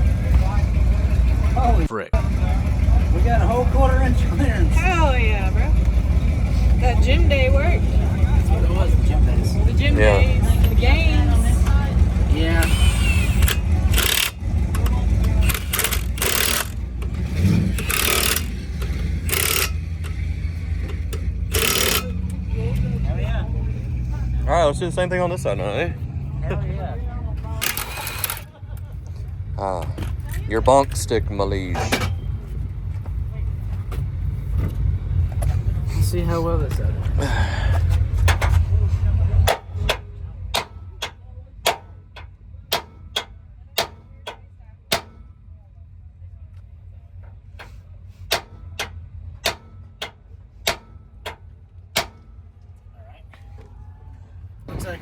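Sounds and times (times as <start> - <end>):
truck axle clicking: 0.0 - 24.5, 26.1 - 45.7, 46.5 - 53.8
low engine rumble: 0.0 - 55.0.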